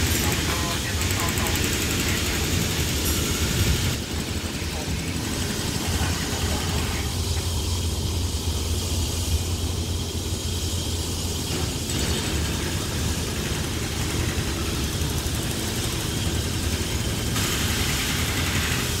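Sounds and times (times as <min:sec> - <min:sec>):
locomotive engine droning: 0:00.0 - 0:19.0.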